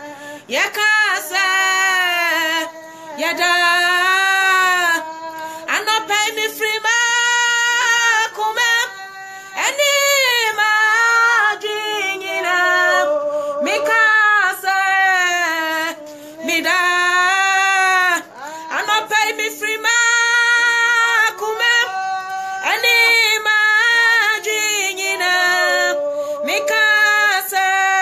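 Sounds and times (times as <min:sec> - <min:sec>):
woman singing gospel unaccompanied: 0:00.0 - 0:28.0.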